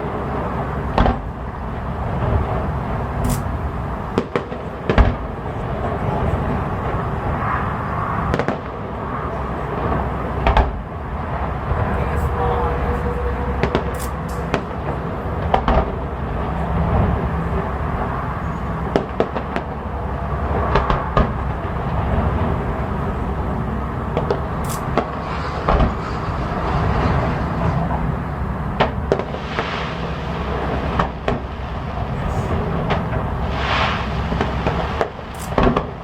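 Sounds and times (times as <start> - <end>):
background rumble: 0.0 - 36.0
fireworks bangs: 0.0 - 36.0.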